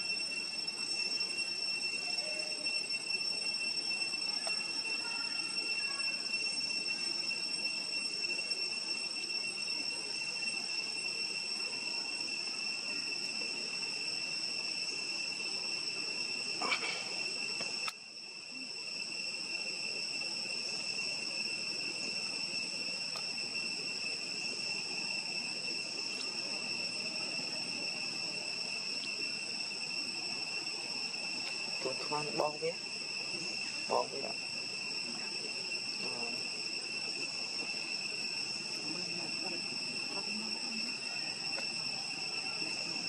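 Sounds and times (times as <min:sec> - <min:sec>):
insect chorus drone: 0:00.0 - 0:43.0.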